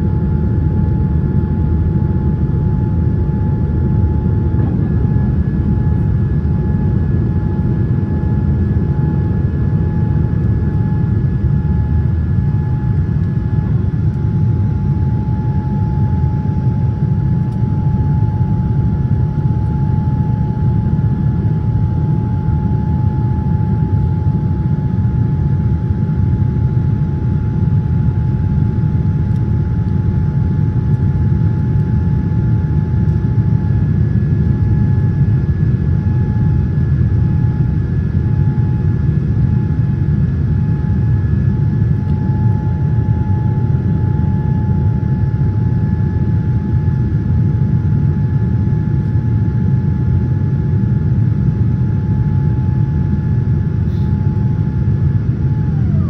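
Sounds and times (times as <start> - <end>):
aircraft engine and airflow rumble: 0.0 - 56.0
faint steady whine: 0.0 - 56.0.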